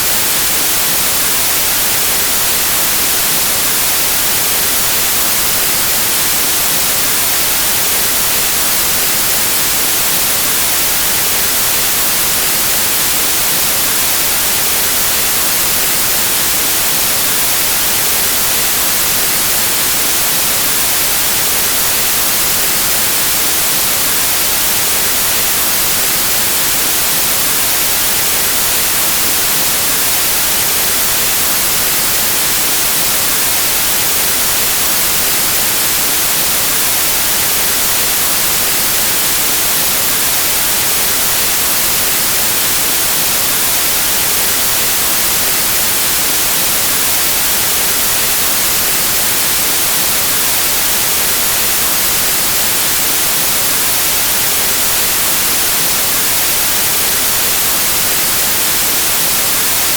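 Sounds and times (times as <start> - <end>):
white noise static hiss: 0.0 - 59.9.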